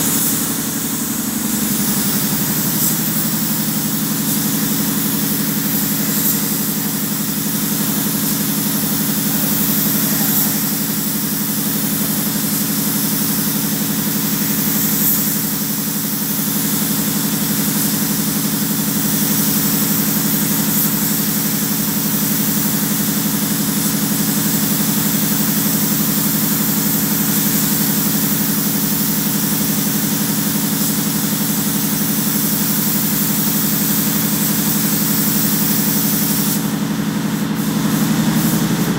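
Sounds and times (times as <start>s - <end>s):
mechanical hum: 0.0s - 38.9s
spray gun hissing: 0.0s - 38.9s.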